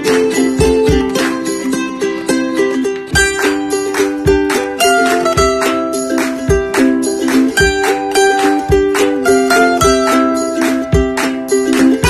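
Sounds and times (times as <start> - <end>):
instrumental tune over a beat: 0.0 - 12.0.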